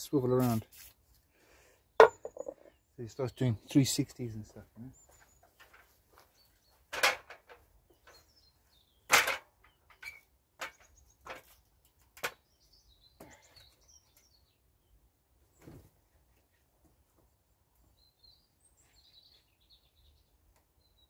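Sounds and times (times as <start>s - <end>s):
small birds chirping: 1.7s - 6.9s, 7.6s - 21.0s.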